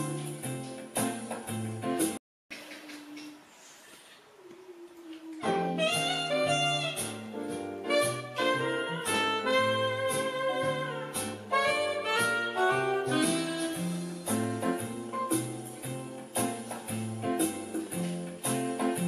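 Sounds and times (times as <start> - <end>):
instrumental music with beat: 0.0 - 2.2, 5.4 - 19.0.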